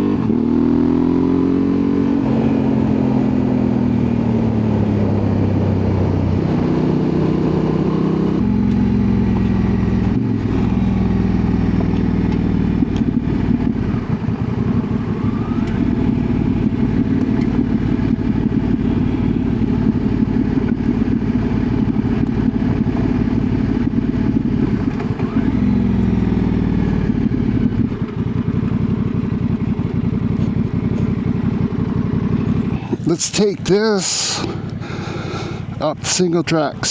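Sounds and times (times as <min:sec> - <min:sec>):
motorcycle engine: 0:00.0 - 0:36.9.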